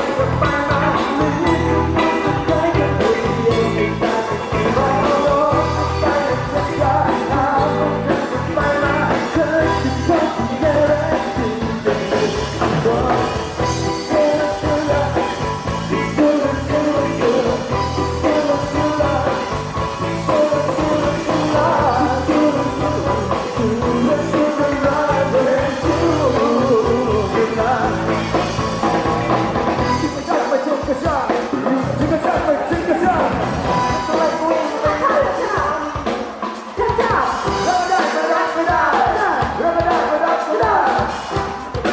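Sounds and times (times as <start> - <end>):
live pop rock band: 0.0 - 41.9
person singing lead vocal: 0.0 - 41.9.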